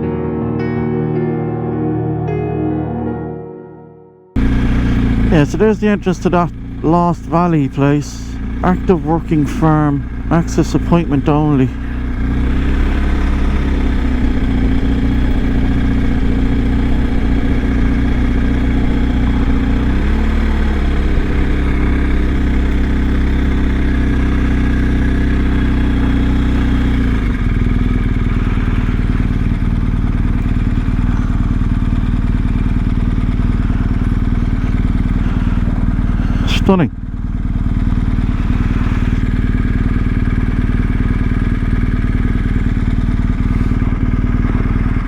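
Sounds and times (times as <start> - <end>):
motorcycle engine running: 4.4 - 45.0
road and wind noise: 4.4 - 45.0.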